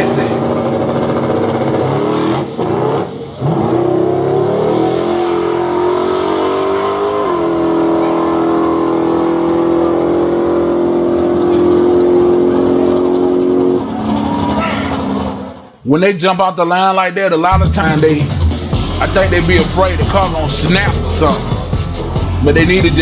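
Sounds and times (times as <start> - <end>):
drag race car accelerating: 0.0 - 15.8, 17.6 - 23.0.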